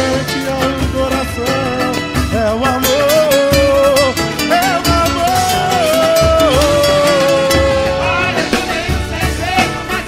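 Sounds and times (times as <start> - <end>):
guitar: 0.0 - 10.0
low drum beats: 0.0 - 10.0
melodic lead line: 0.0 - 10.0.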